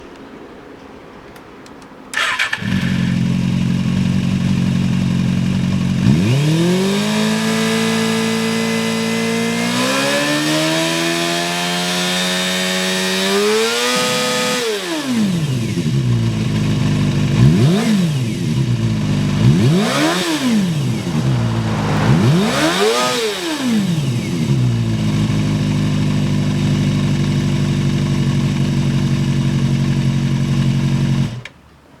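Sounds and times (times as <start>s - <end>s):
motorcycle engine revving: 2.2s - 31.4s.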